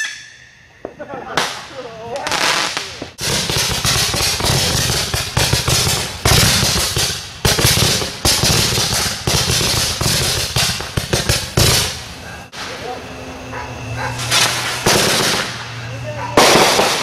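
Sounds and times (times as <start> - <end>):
loud firework bangs: 0.8 - 13.0, 13.8 - 17.0
fireworks crackling: 0.8 - 13.1, 13.8 - 17.0.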